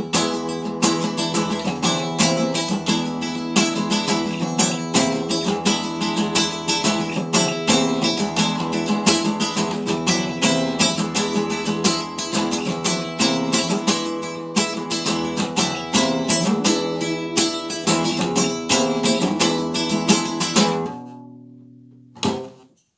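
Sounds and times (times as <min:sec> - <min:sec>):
acoustic guitar strumming: 0:00.0 - 0:22.7.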